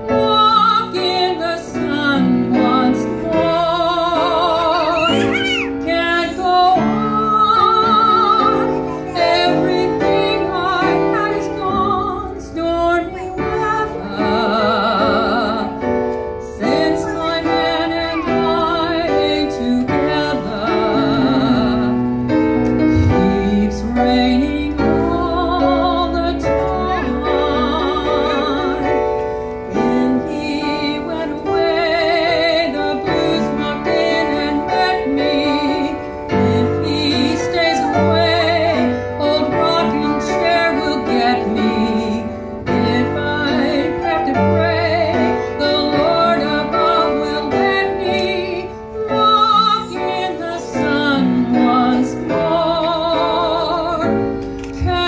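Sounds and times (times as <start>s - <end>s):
woman singing with vibrato: 0.0s - 22.3s, 22.9s - 55.0s
upright piano: 0.0s - 55.0s.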